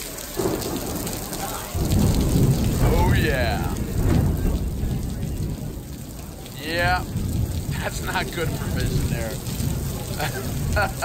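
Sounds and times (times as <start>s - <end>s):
heavy rain pouring: 0.0s - 11.0s
low rumble of thunder: 0.3s - 11.0s.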